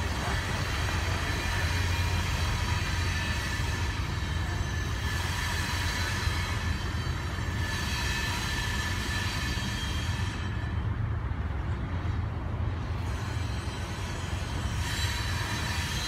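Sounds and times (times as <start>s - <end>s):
high-pitched wheel squeal: 0.0s - 11.0s, 12.9s - 16.0s
train cars rumbling past: 0.0s - 16.0s.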